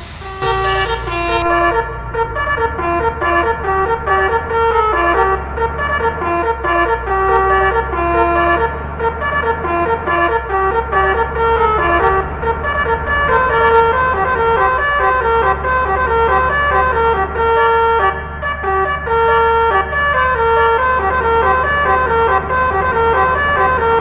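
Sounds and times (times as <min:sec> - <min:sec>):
multi-tone bus horn melody: 0:00.0 - 0:24.0.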